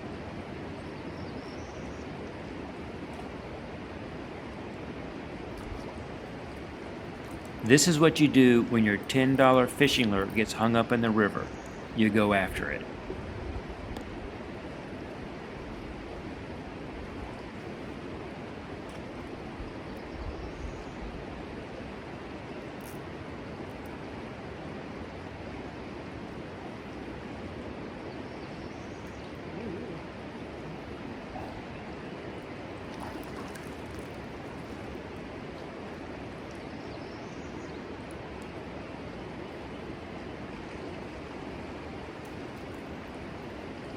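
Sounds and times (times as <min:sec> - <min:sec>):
river water over rapids: 0:00.0 - 0:43.9.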